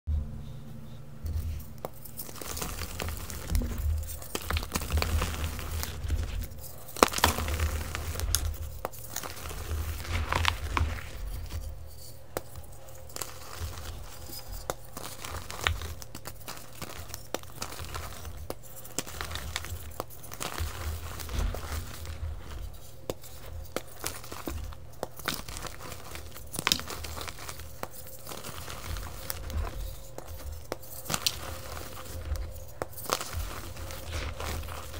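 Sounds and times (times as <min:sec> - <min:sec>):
chalk blocks crunching and crumbling: 0:01.3 - 0:34.9.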